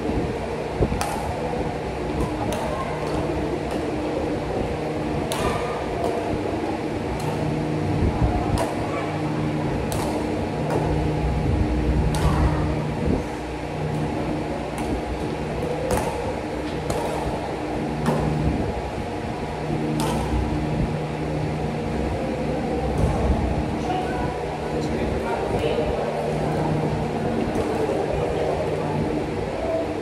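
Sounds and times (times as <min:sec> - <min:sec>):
mechanical hum with low tones: 0:00.0 - 0:30.0.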